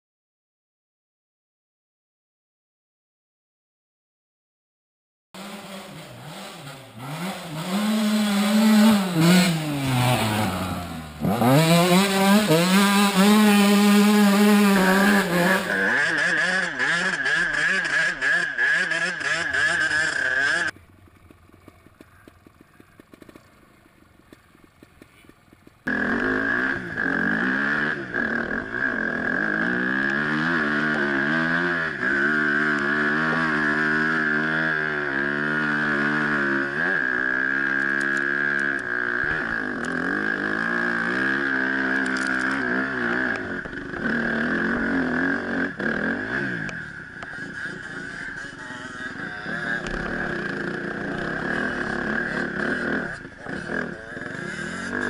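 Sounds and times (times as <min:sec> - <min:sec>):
dirt bike engine revving: 0:05.4 - 0:55.0.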